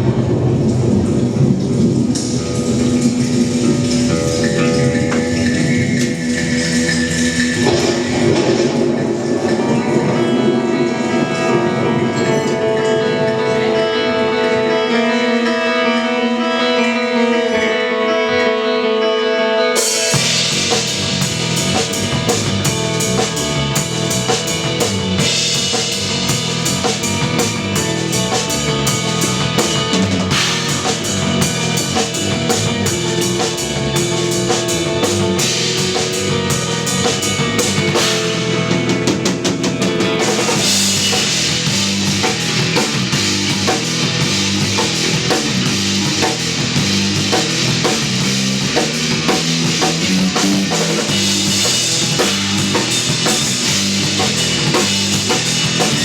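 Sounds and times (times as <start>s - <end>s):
electric bass: 0.0s - 15.2s, 20.0s - 56.0s
cymbals washing: 0.0s - 15.5s, 19.8s - 56.0s
electric guitar: 0.0s - 56.0s
drum kit drumming: 0.8s - 11.0s, 19.8s - 56.0s.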